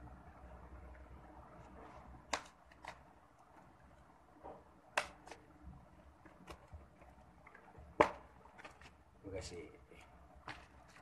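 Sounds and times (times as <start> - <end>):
hands handling cardboard package: 1.5 - 9.2, 9.8 - 11.0.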